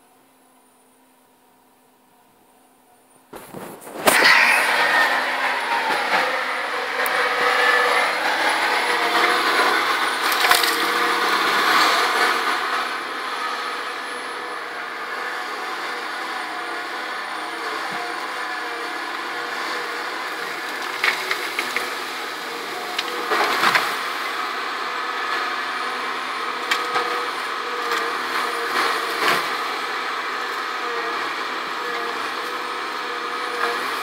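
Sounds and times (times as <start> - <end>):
hydraulic whine: 3.3 - 34.0
diesel engine running: 3.4 - 34.0.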